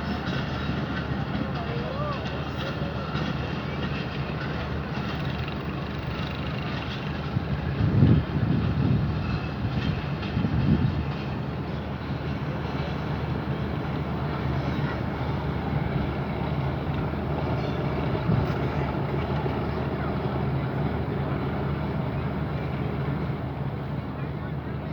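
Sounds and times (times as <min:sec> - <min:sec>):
rolling rail noise: 0:00.0 - 0:24.9
train engine hum: 0:00.0 - 0:24.9.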